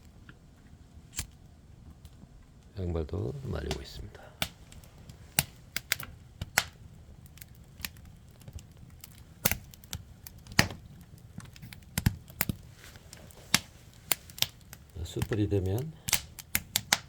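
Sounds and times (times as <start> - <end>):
firewood crackling: 0.0 - 17.0
fire snapping sharply: 1.0 - 17.0.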